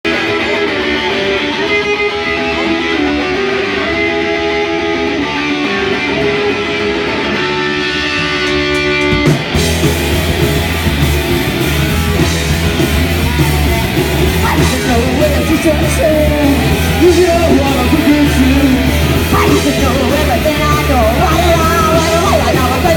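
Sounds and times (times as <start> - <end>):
electric guitar: 0.0 - 22.9
rock band playing: 0.0 - 22.9.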